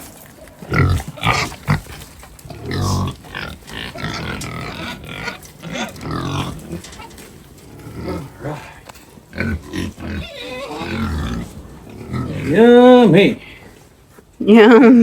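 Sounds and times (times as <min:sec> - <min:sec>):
pigs grunting and squealing: 0:00.6 - 0:13.6.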